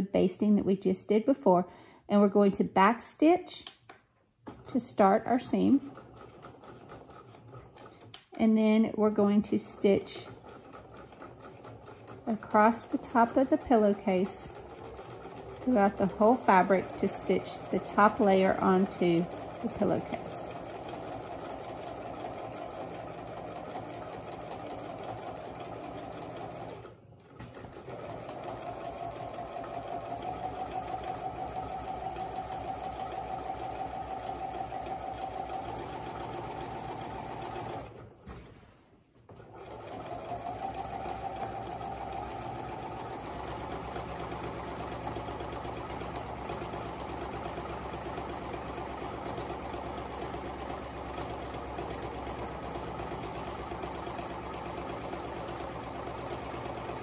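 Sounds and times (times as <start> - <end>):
sewing machine stitching: 4.4 - 8.4, 9.5 - 38.2, 39.3 - 57.0.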